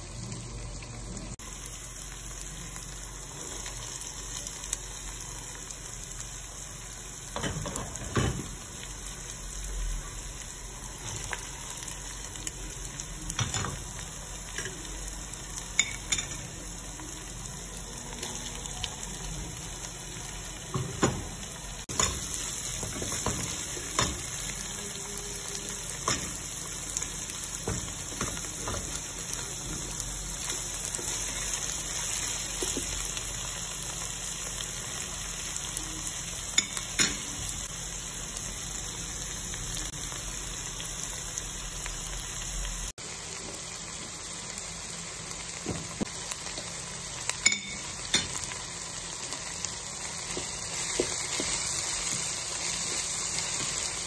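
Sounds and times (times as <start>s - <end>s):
vegetables sizzling in a pot: 0.0s - 54.0s.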